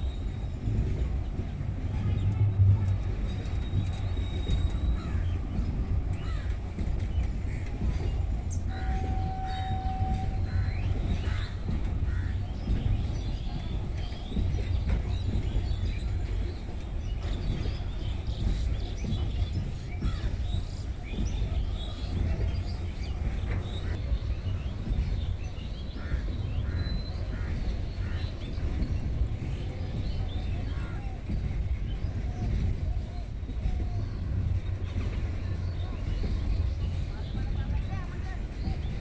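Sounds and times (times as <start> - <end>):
freight train rumbling over bridge: 0.0 - 39.0
birds calling: 4.5 - 16.1, 17.1 - 39.0.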